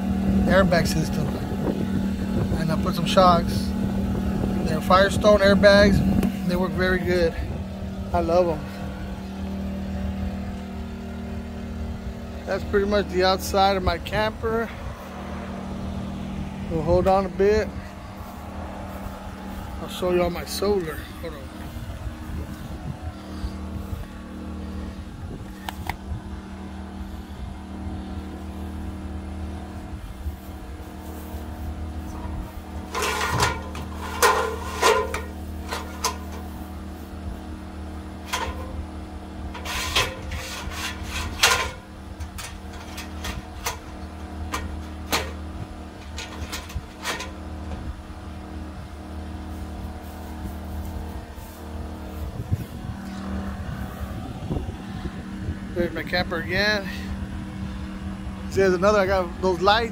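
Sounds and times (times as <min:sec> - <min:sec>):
motor droning: 0:00.0 - 0:59.9.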